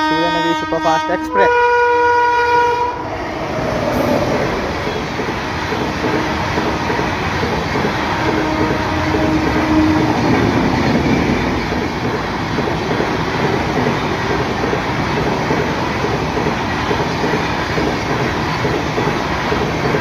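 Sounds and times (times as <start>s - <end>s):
trains rumbling on rails: 0.0s - 20.0s.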